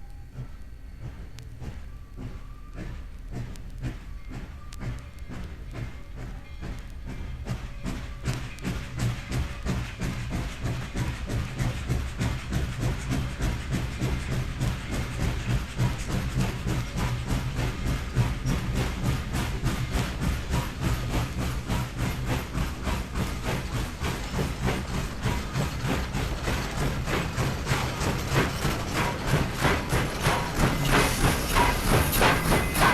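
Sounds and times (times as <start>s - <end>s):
steam locomotive exhaust chuffing: 0.0s - 32.9s.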